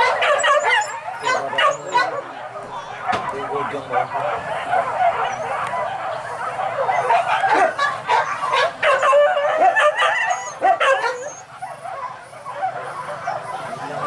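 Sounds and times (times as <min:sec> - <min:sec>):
dogs barking and yelping: 0:00.0 - 0:14.0.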